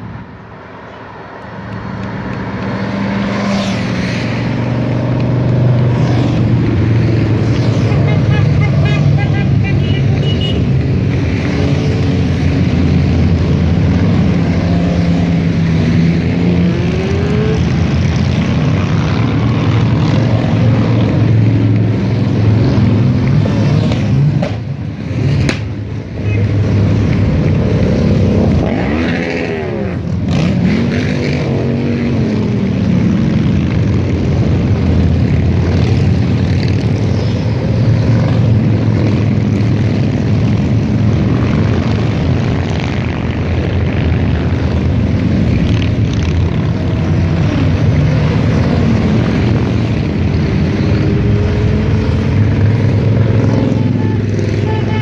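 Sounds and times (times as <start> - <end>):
motorcycles riding past: 1.6 - 55.0.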